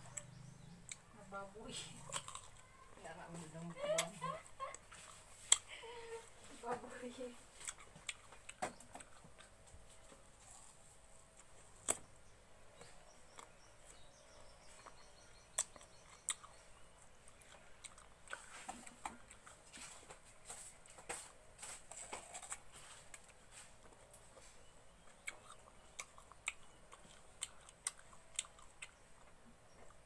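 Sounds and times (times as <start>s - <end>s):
crunchy chewing of fruit: 0.0s - 30.0s.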